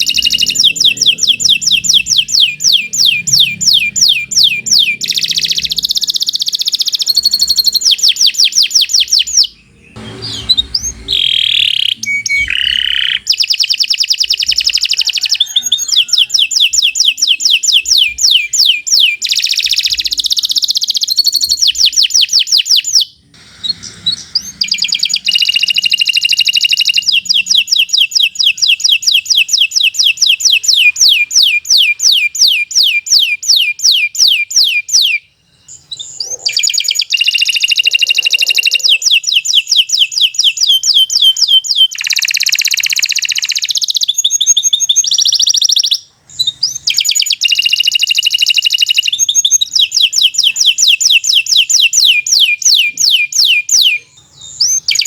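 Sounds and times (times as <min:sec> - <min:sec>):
canary singing fast trills: 0:00.0 - 0:55.0.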